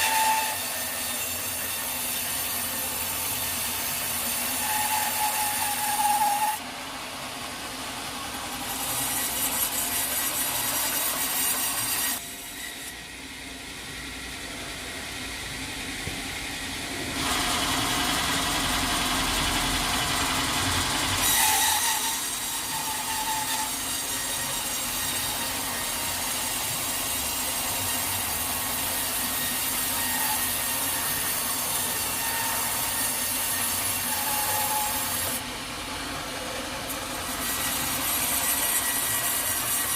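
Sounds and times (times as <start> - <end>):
sawmill saw cutting log: 0.0 - 13.8, 17.0 - 39.9.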